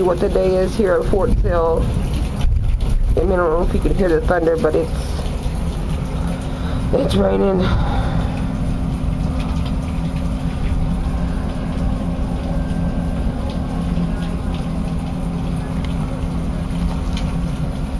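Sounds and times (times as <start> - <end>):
heavy rain pouring: 0.0 - 17.9
low rumble: 1.0 - 17.9.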